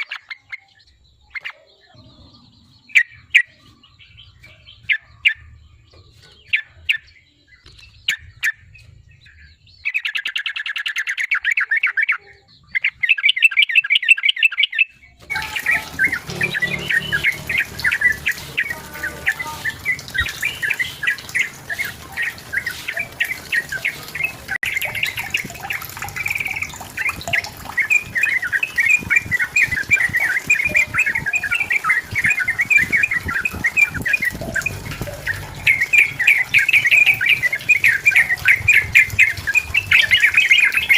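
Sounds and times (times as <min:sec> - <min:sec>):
bird singing chattering phrases: 0:00.0 - 0:40.9.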